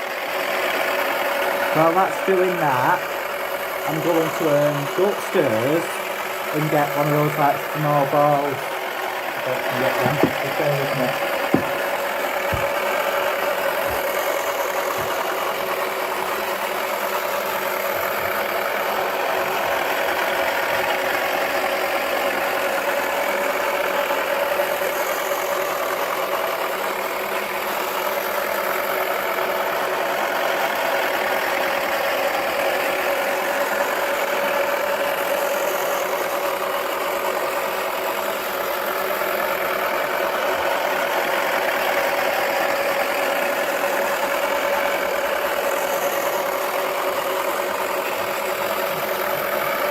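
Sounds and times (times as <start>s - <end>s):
small electric motor whining: 0.0s - 49.9s.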